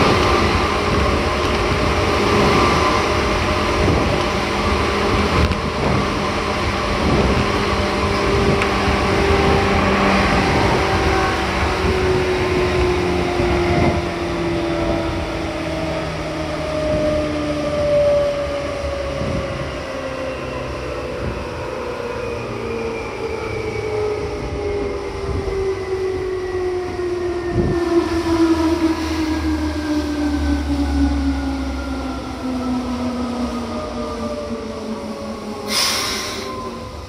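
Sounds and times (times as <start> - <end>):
passing train rumble: 0.0 - 37.0.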